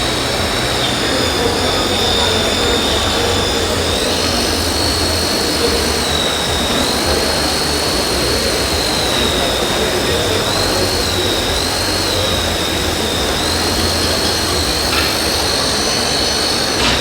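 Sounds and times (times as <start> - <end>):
continuous hiss: 0.0 - 17.0
high electric motor whine: 0.0 - 17.0.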